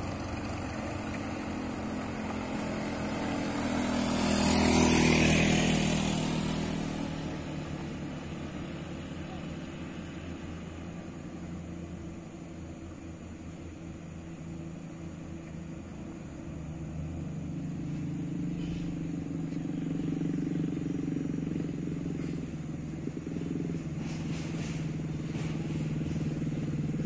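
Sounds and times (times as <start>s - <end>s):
diesel truck engine: 0.0s - 27.0s
motorcycle engine: 0.0s - 27.0s.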